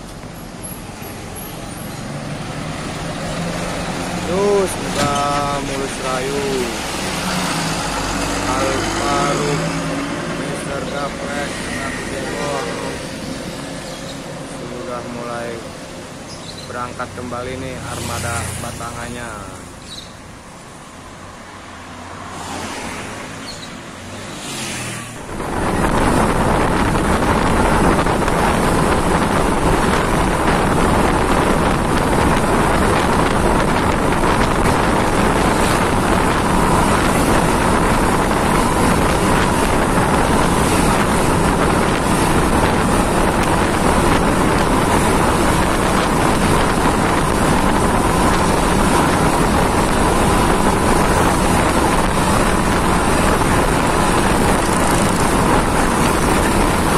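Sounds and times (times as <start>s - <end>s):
bus engine running: 0.0s - 16.9s, 25.2s - 56.9s
wind rush on microphone: 0.0s - 20.1s, 22.3s - 56.9s
road noise: 0.0s - 56.9s
street traffic: 0.0s - 56.9s.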